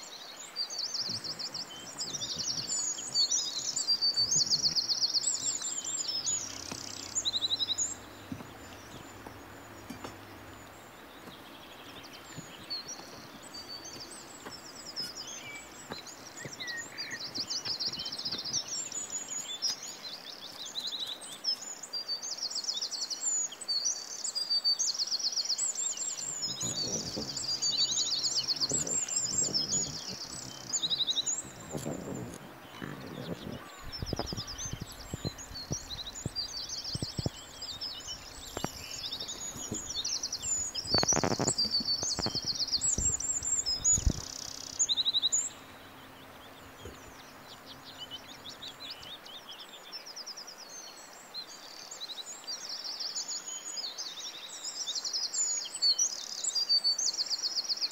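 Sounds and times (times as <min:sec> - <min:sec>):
small birds chirping and trilling: 0:00.0 - 0:57.9.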